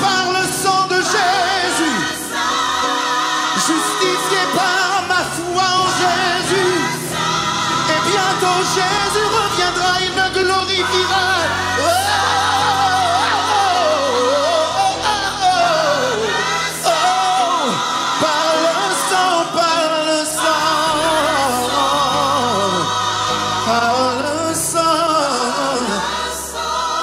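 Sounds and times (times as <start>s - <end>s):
keyboard accompaniment: 0.0s - 27.0s
vocal group singing: 0.0s - 27.0s.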